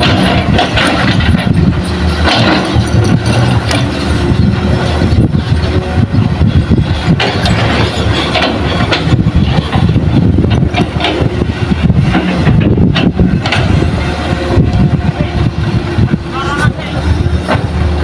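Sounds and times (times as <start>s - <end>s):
knocks and rattles: 0.0s - 16.2s
excavator diesel engine running: 0.0s - 18.0s.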